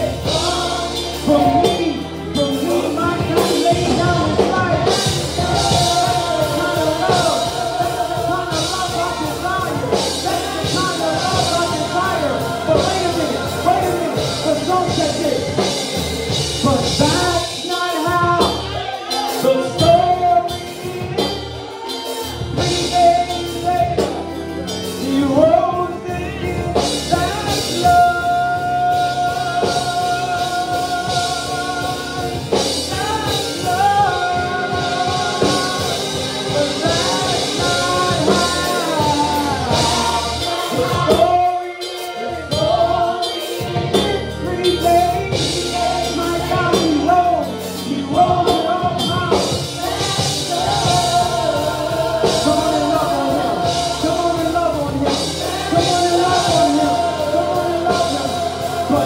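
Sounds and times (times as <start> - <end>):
backing vocalists singing: 0.0 - 59.0
band playing: 0.0 - 59.0
drums: 0.0 - 59.0
lead singer singing: 0.0 - 59.0.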